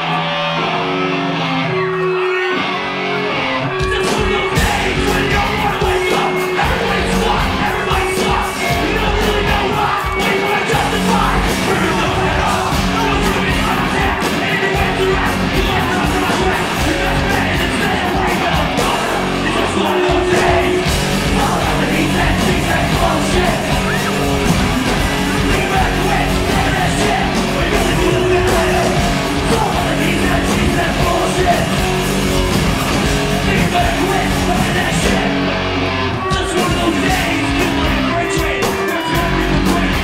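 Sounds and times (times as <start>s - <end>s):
live rock band playing: 0.0s - 40.0s
person singing and yelling: 1.6s - 40.0s.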